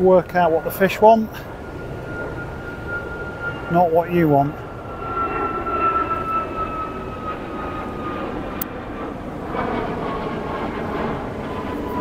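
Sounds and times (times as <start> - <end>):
jet airliner flying over: 0.0 - 12.0.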